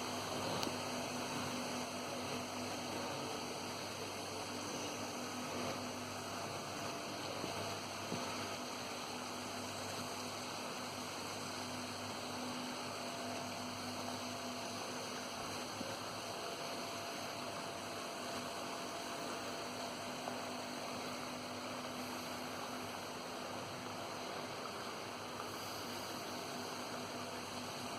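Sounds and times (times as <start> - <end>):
boring machine humming: 0.0 - 27.9.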